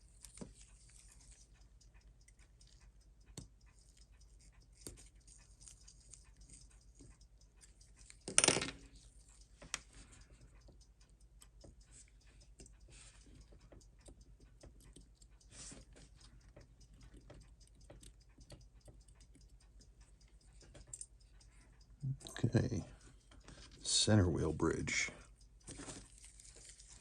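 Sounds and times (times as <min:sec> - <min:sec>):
watchmaker's tools ticking and clicking: 0:00.0 - 0:27.0.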